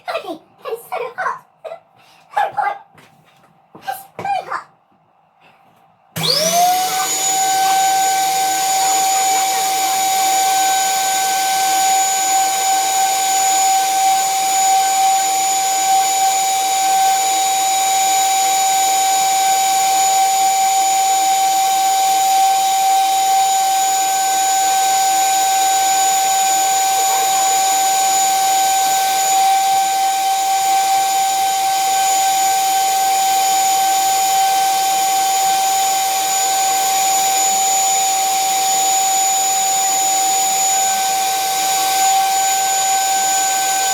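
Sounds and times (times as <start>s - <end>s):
electric drill whining through steel: 6.2s - 43.9s.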